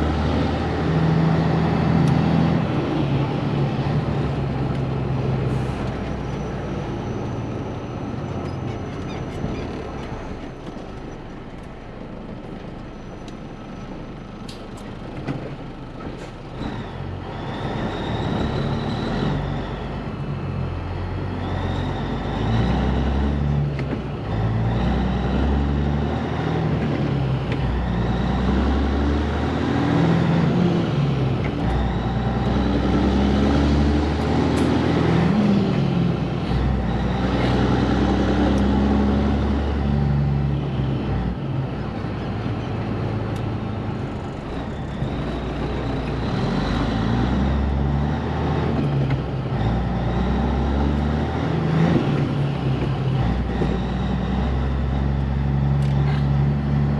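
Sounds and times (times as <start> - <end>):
diesel truck engine accelerating: 0.0 - 56.9.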